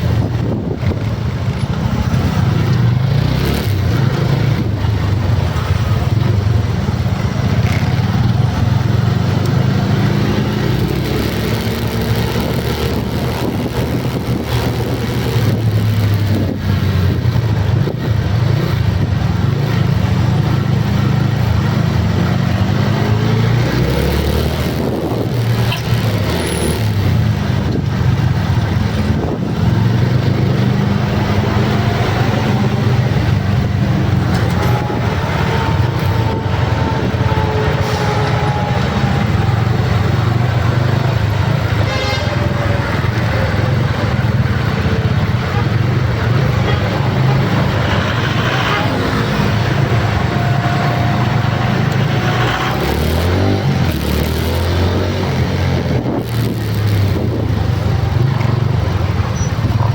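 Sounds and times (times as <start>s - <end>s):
vehicle engines in traffic: 0.0s - 59.9s.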